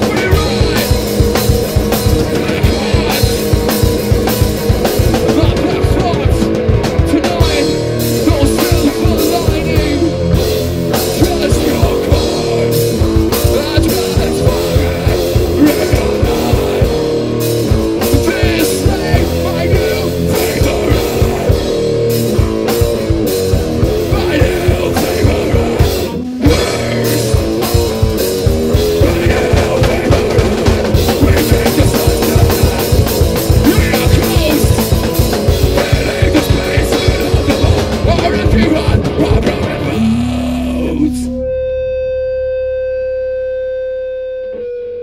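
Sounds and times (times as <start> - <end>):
fast drum strikes: 0.0 - 41.0
live rock band playing: 0.0 - 45.0.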